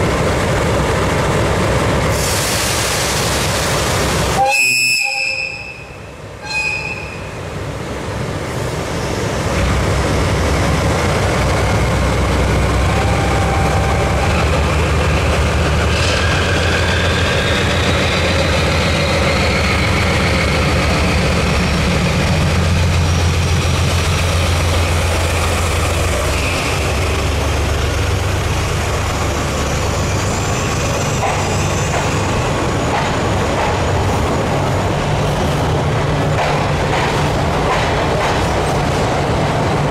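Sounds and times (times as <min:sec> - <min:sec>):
diesel locomotive engine drone: 0:00.0 - 0:39.9
train wheel noise: 0:00.0 - 0:39.9.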